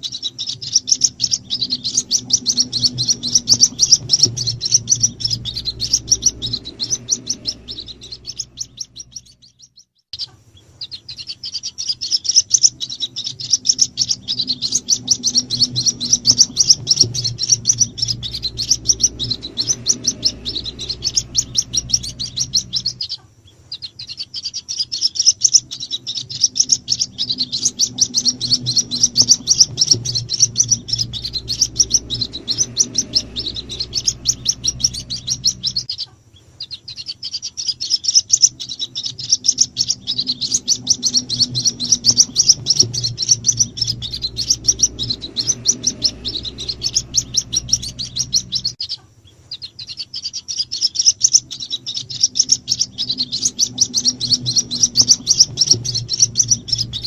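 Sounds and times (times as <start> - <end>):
bird chicks cheeping: 0.0 - 57.0
steady low hum: 0.0 - 57.0.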